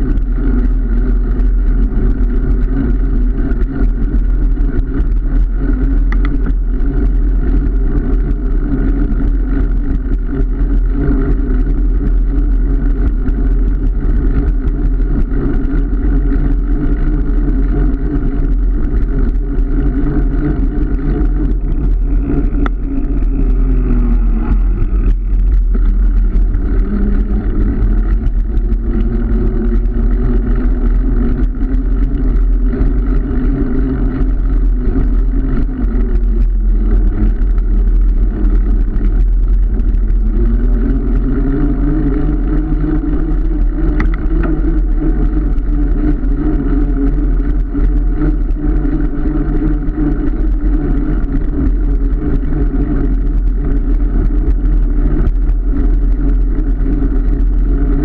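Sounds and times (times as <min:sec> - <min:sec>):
car engine running: 0:00.0 - 0:58.0
low road rumble: 0:00.0 - 0:58.0.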